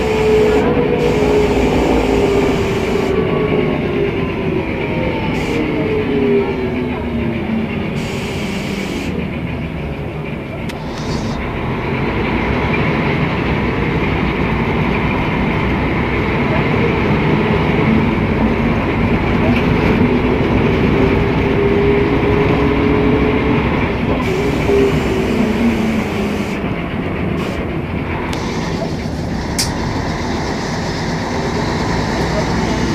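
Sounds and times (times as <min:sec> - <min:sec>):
bus engine whining: 0:00.0 - 0:32.9.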